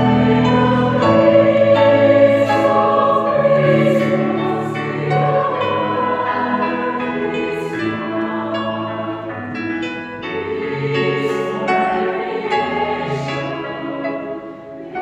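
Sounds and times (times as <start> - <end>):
choirs singing a carol: 0.0 - 15.0.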